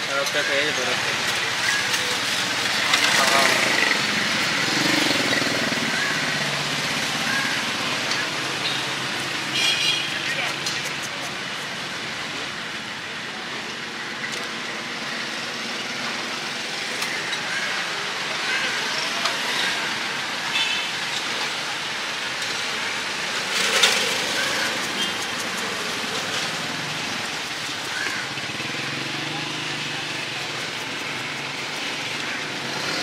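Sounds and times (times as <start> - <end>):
traffic hum: 0.0 - 33.0.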